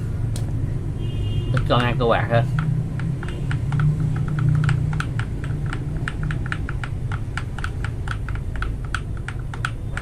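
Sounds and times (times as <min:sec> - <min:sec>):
mechanical keyboard typing: 0:01.6 - 0:10.0.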